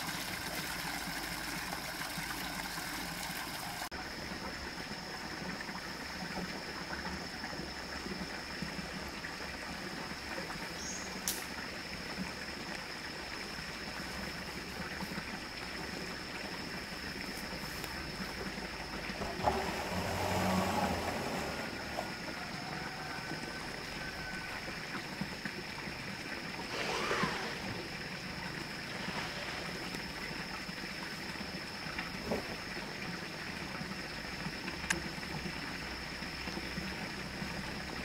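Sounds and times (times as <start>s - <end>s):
outdoor hiss: 0.0s - 38.0s.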